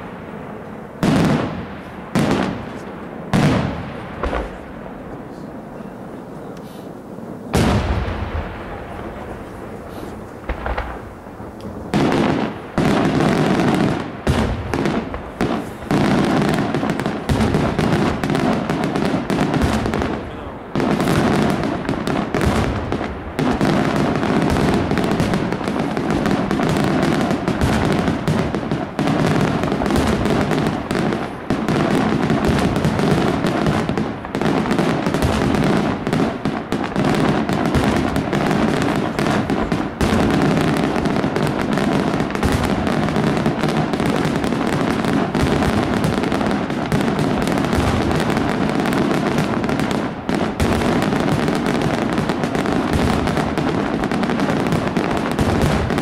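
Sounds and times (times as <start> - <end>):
fireworks bangs and crackle: 0.0 - 56.0.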